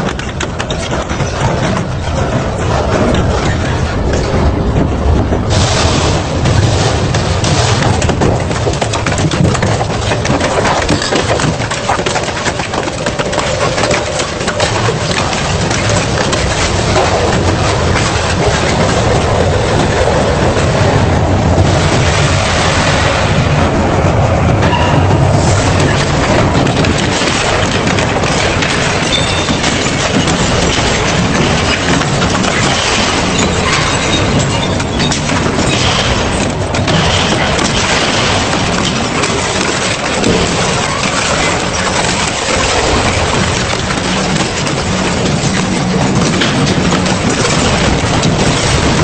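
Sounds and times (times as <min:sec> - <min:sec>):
low rumble from shafts: 0:00.0 - 0:49.0.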